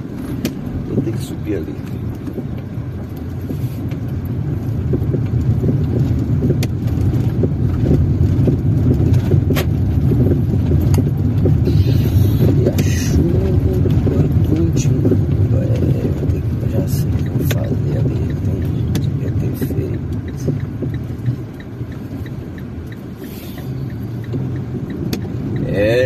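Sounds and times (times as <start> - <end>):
tyre and engine rumble: 0.0 - 26.0
windshield wiper swish: 0.0 - 26.0.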